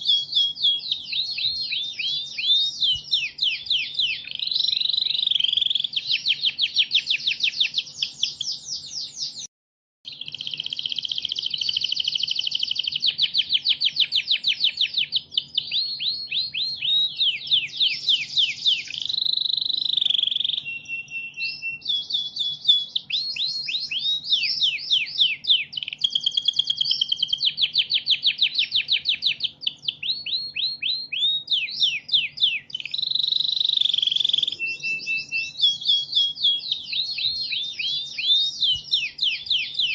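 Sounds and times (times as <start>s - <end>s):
canary singing trills: 0.0s - 9.5s, 10.1s - 39.9s.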